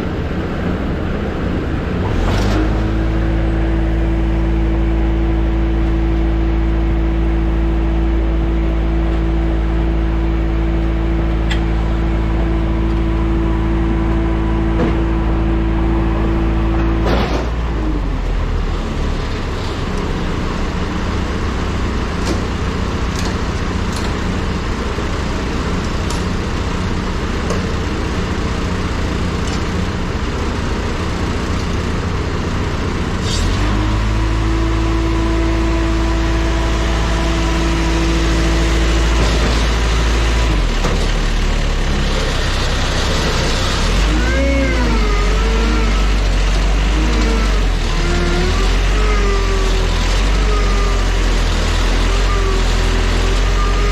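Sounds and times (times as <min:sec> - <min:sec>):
machinery humming: 0:00.0 - 0:53.9
rough engine sound: 0:00.0 - 0:53.9.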